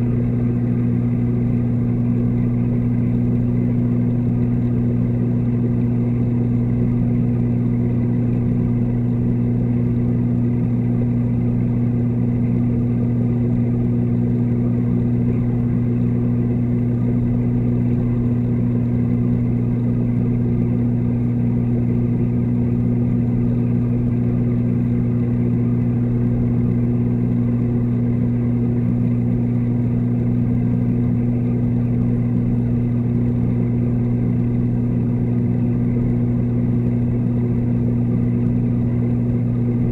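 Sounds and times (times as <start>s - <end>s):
aquarium water pump hum: 0.0s - 39.9s.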